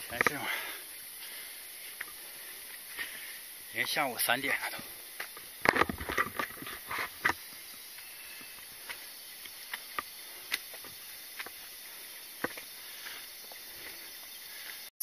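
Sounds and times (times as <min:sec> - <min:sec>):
footsteps on rocky trail: 0:00.0 - 0:14.9
insects buzzing: 0:00.0 - 0:14.9.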